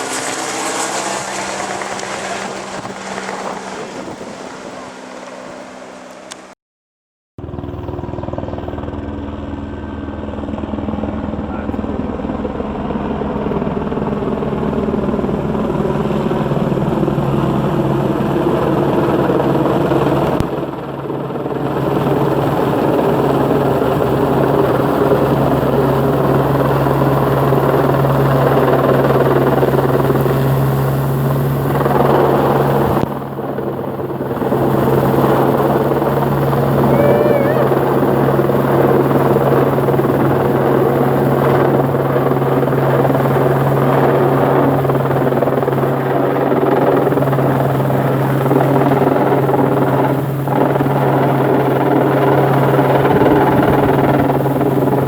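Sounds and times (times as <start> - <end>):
helicopter engine and rotor: 0.0 - 6.6, 7.4 - 55.0.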